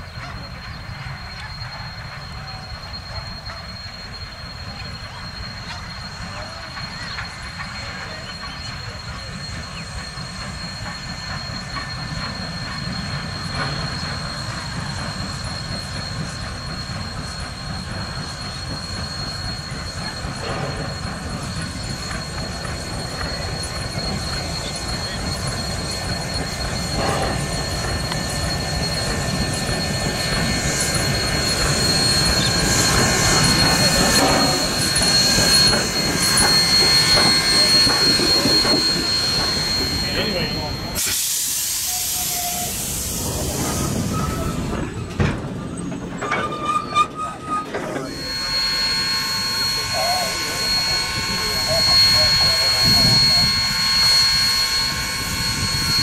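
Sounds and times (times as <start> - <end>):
steam train rumble and rail clatter: 0.0 - 56.0
thin high whine: 2.3 - 44.6, 48.0 - 56.0.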